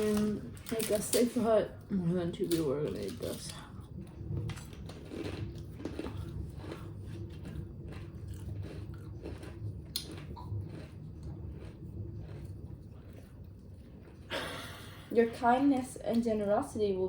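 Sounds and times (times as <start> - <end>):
chewing crunchy cookie: 0.0 - 14.5.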